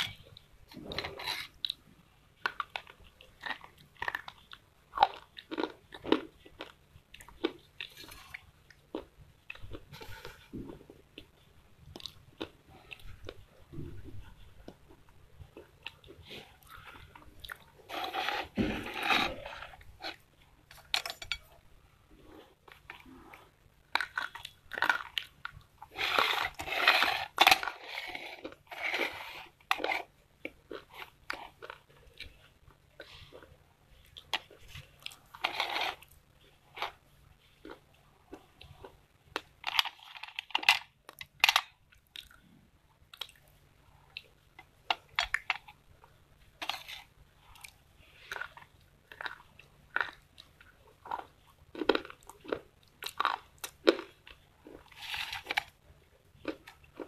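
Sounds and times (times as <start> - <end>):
chewing something hard and crunchy: 2.4 - 13.5, 22.2 - 57.0.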